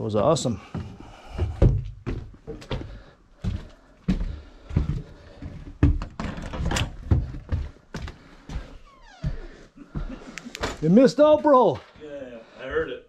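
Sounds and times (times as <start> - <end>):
footsteps: 0.5 - 12.2.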